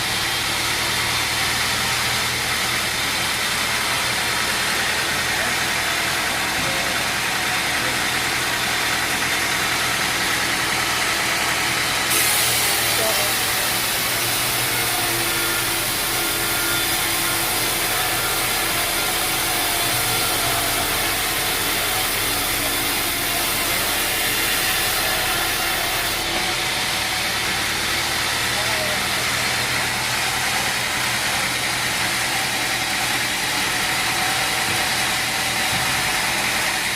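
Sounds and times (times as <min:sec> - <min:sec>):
sawmill machinery running: 0:00.0 - 0:36.9.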